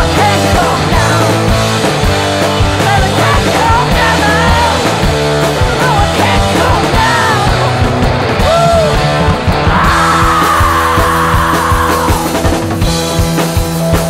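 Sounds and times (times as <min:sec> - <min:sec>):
soul-rock band playing: 0:00.0 - 0:14.0.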